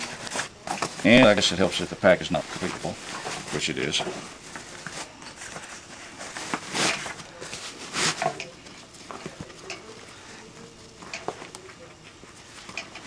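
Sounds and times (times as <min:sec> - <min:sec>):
fabric and webbing rustling: 0:00.0 - 0:11.6.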